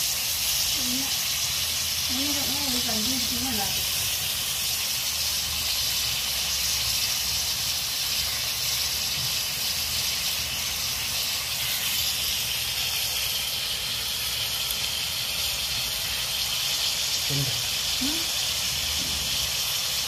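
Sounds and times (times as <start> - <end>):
crab sizzling in a wok: 0.0 - 20.0.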